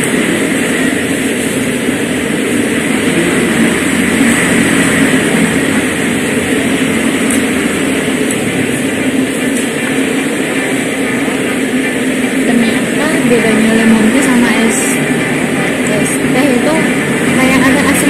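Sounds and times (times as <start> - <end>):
low hum with hiss: 0.0 - 18.0.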